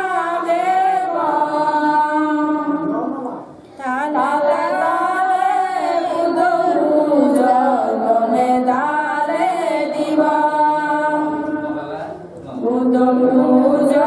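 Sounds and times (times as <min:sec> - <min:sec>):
women chanting a prayer: 0:00.0 - 0:14.0.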